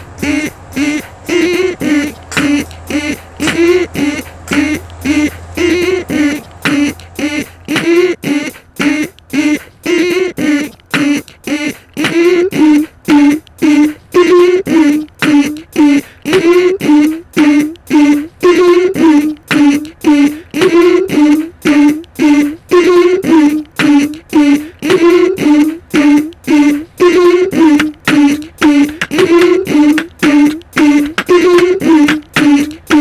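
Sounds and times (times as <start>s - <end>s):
looped beatboxed synth notes: 0.0s - 33.0s.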